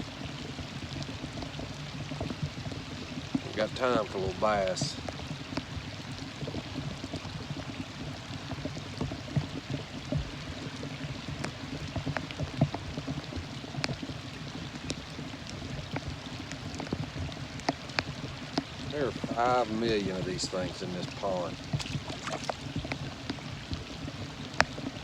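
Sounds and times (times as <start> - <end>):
steady rain: 0.0 - 25.0
sharp drips and taps: 0.4 - 25.0.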